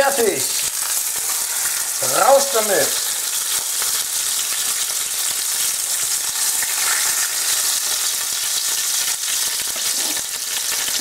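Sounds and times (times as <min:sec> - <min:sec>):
burger patty sizzling in pan: 0:00.0 - 0:11.0.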